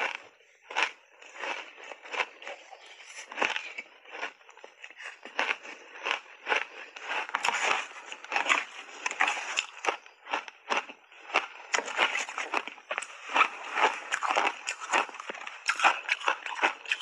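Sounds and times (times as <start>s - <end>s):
ice crunching while chewed: 0.0s - 17.0s.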